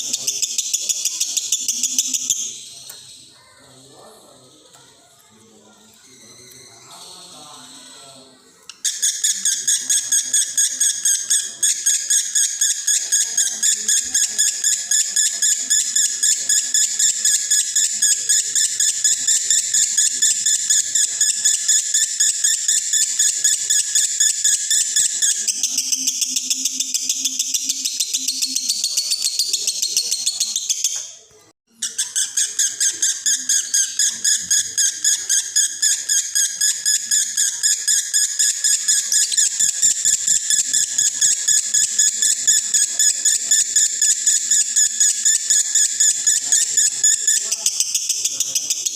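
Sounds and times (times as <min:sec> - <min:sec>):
bird chattering high chirps: 0:00.0 - 0:03.9, 0:06.0 - 0:48.9.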